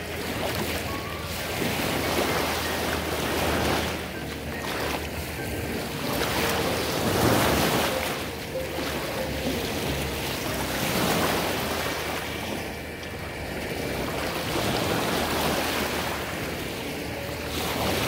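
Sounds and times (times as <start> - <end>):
small waves lapping on shore: 0.0 - 18.0.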